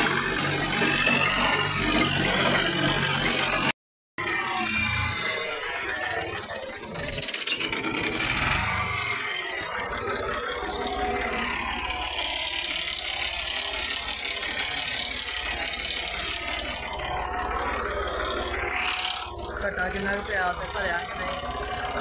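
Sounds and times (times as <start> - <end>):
tractor engine running: 0.0 - 3.7, 6.6 - 22.0.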